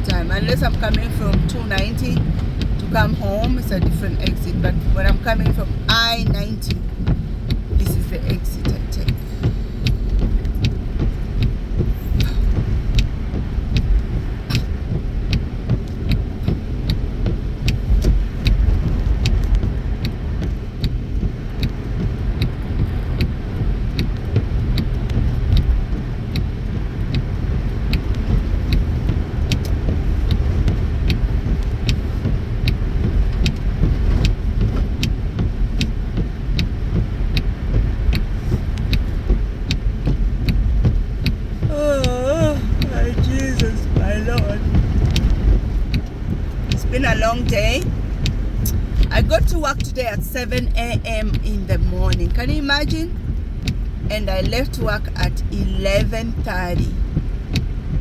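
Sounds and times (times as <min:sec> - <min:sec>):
road and engine rumble: 0:00.0 - 0:58.0
turn signal ticking: 0:00.0 - 0:58.0.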